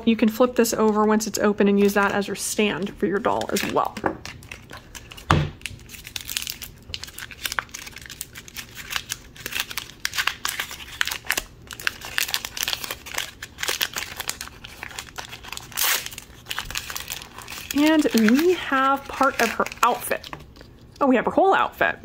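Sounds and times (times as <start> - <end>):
plastic wrapper crinkling: 0.2 - 21.1.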